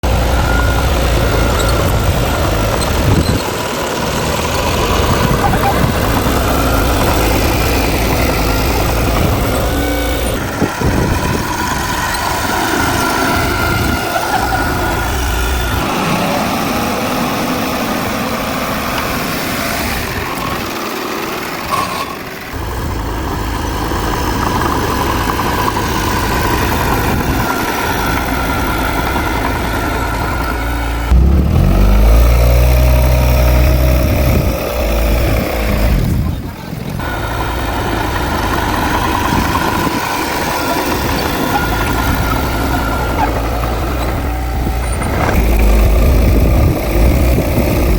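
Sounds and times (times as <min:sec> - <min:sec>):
deeper louder engine: 0:00.0 - 0:47.9
heavy diesel engines running: 0:00.0 - 0:47.9
steady whine: 0:00.0 - 0:47.9.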